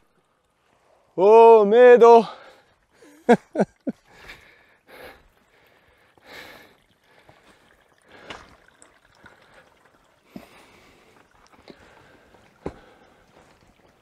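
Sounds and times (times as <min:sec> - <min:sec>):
faint water: 0:00.0 - 0:14.0
footsteps in shallow creek: 0:02.4 - 0:14.0.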